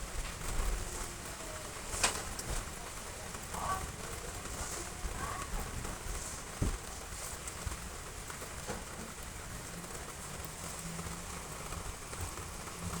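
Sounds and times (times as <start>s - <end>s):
heavy rain on roof tiles: 0.0s - 13.0s.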